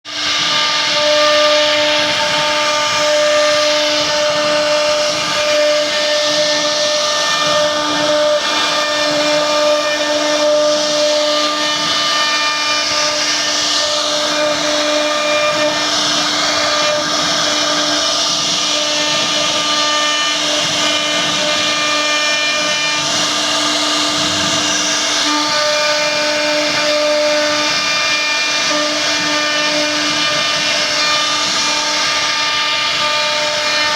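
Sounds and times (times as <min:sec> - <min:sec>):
cnc machine whine: 0:00.1 - 0:33.9.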